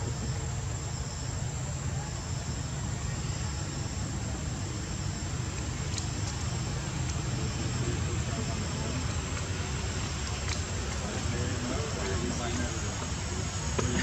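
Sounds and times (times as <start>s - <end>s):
faint insects trilling: 0.0s - 14.0s
low rumble and hiss: 0.0s - 14.0s.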